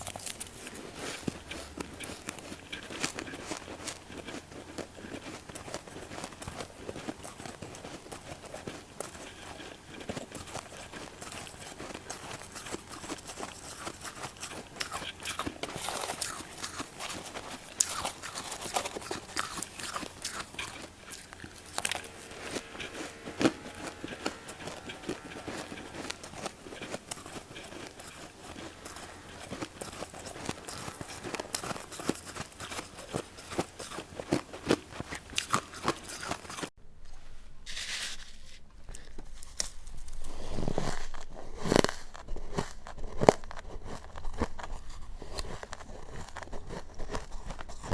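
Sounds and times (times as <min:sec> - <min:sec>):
chewing crunchy frost: 0:00.0 - 0:36.7, 0:38.8 - 0:47.9.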